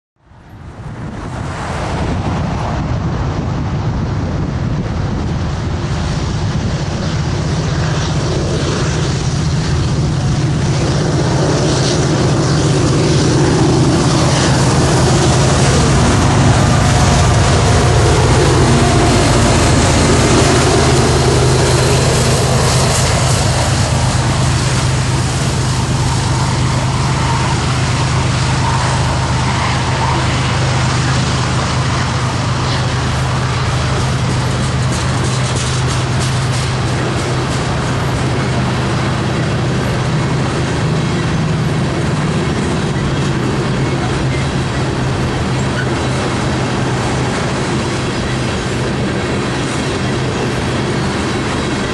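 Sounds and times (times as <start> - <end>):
diesel locomotive engine droning: 0.2 - 51.9
freight cars rumbling over rails: 0.2 - 51.9.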